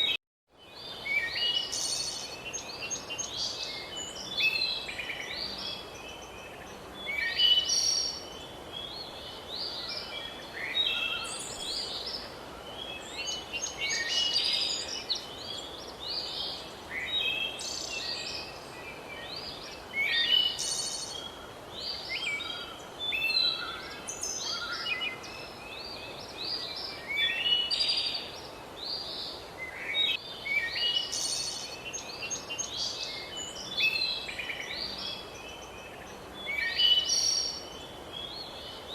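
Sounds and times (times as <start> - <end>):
birds chirping and trilling: 0.0 - 38.9
background hiss: 0.6 - 38.9.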